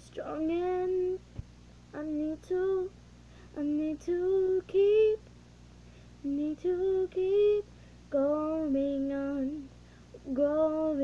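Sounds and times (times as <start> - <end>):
girl singing unaccompanied: 0.0 - 1.3, 1.9 - 5.3, 6.2 - 11.0.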